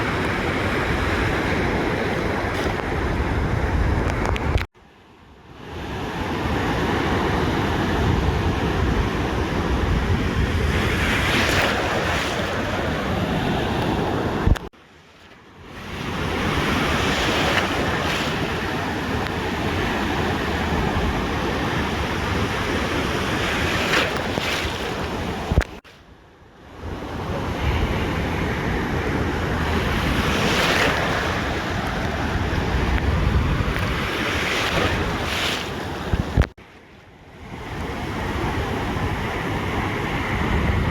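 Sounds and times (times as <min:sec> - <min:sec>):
ocean surf washing onto beach: 0:00.0 - 0:04.7, 0:05.4 - 0:26.0, 0:26.7 - 0:40.9
wind rumbling on microphone: 0:00.0 - 0:04.7, 0:05.8 - 0:14.7, 0:15.6 - 0:40.9.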